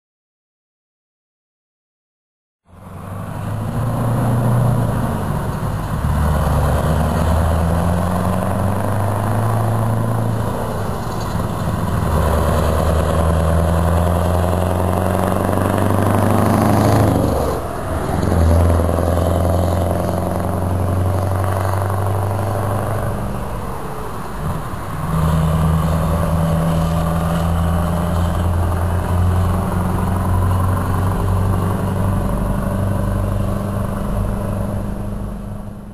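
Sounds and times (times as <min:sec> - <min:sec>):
truck engine accelerating through gears: 0:02.7 - 0:35.9.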